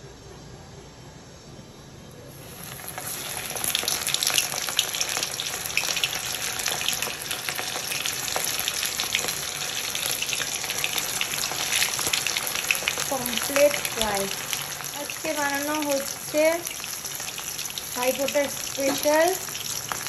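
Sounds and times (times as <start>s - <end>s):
fish frying in hot oil: 2.4s - 20.0s
oil popping and crackling: 2.4s - 20.0s.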